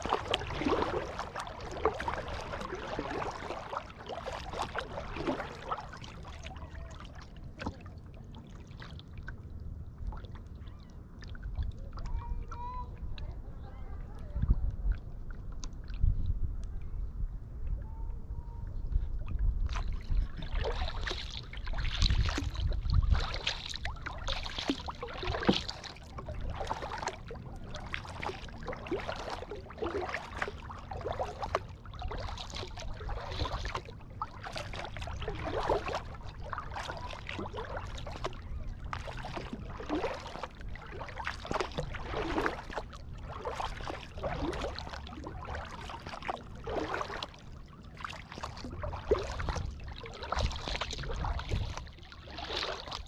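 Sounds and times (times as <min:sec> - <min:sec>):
paddle splashing in water: 0:00.0 - 0:13.4, 0:18.9 - 0:53.0
low rumble: 0:00.0 - 0:46.7.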